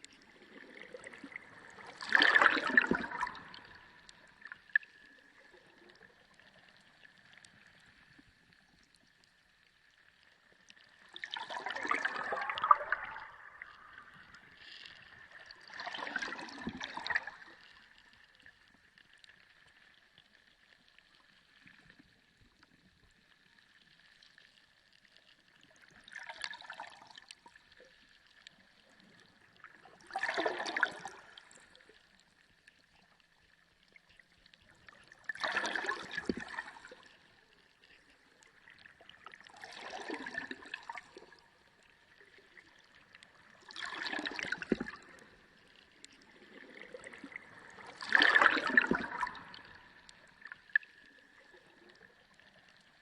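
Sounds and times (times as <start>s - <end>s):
underwater gurgling sloshing water: 0.0s - 53.0s.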